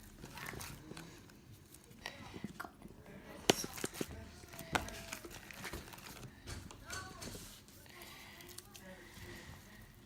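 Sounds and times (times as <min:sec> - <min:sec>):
slime squelching: 0:00.0 - 0:10.0.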